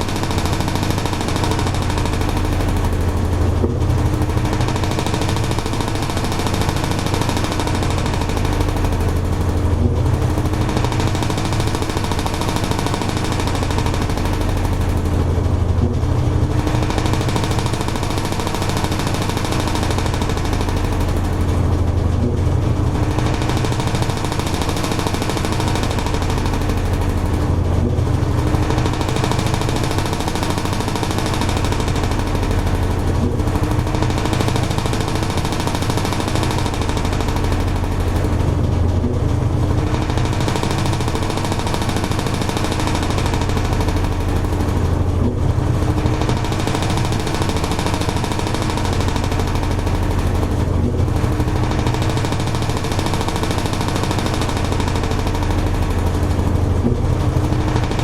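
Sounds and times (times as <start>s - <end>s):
washing machine churning: 0.0s - 58.0s.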